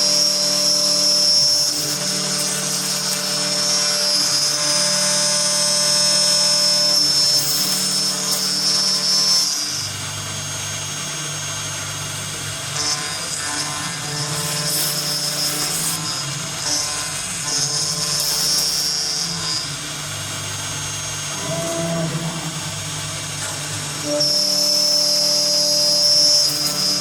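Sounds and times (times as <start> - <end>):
boring machine motor whine: 0.0 - 27.0.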